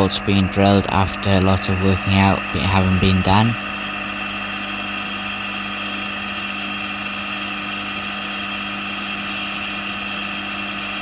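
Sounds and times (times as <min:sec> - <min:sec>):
milling machine drilling steel: 0:00.0 - 0:11.0.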